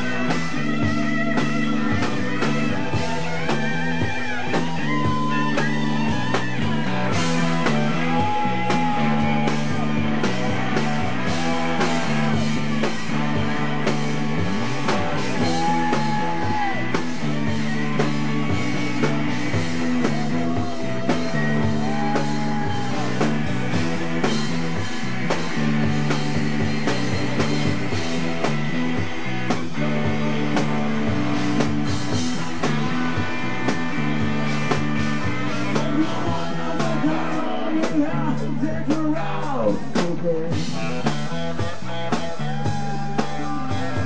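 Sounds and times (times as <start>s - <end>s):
rock band playing: 0.0s - 44.0s.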